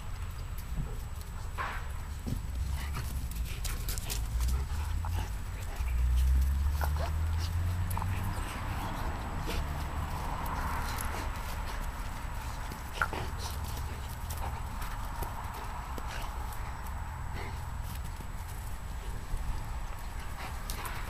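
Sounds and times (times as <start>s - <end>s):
dogs scuffling on grass: 0.0s - 21.0s.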